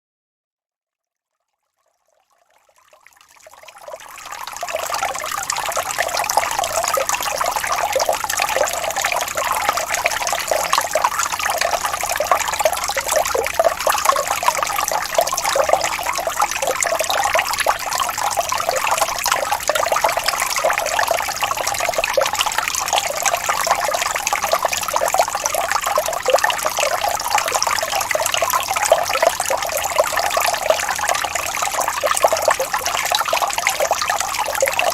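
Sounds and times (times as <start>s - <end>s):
stream water rippling over stones: 3.2s - 34.9s.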